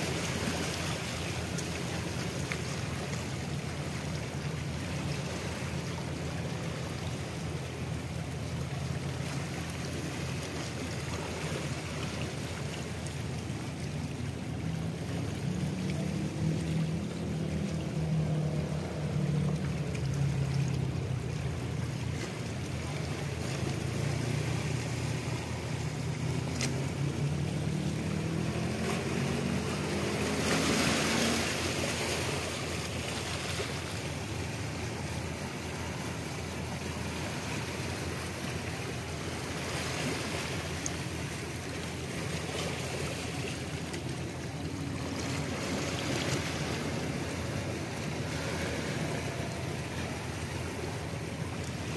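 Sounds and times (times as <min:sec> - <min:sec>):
boat engine humming: 0:00.0 - 0:51.9
waves washing against rocks: 0:00.0 - 0:51.9
wind: 0:00.0 - 0:51.9.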